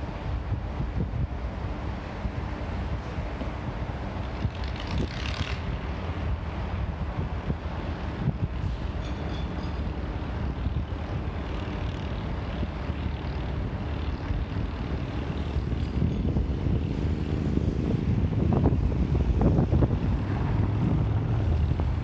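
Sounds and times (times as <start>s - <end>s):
diesel locomotive engine under load: 0.0s - 22.0s.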